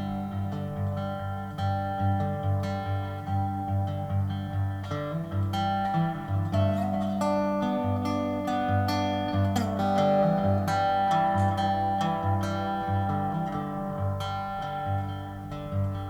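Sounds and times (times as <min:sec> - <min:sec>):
plucked acoustic guitar: 0:00.0 - 0:16.0.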